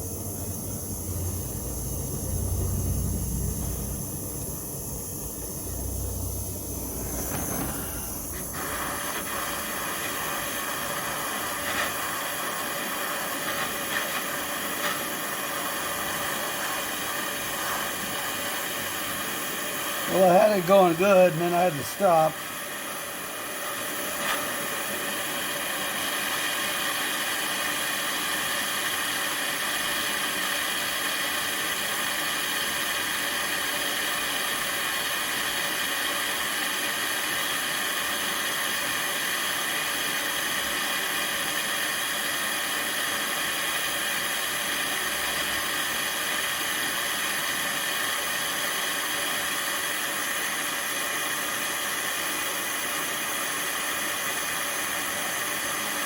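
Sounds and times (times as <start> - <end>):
heating equipment hissing: 0.0 - 56.0.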